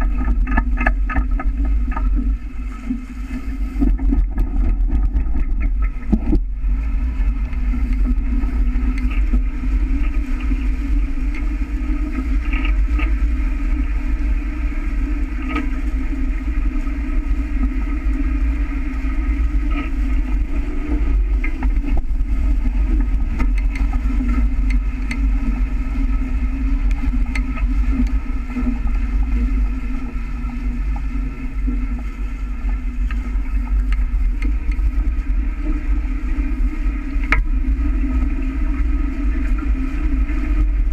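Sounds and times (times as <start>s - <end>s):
faint ticks: 0.0s - 6.5s, 7.4s - 14.0s, 15.2s - 18.3s, 19.5s - 35.3s, 37.0s - 38.8s
constant low hum: 0.0s - 40.9s
water streaming past hulls: 0.0s - 40.9s
wind buffeting camera: 0.0s - 40.9s.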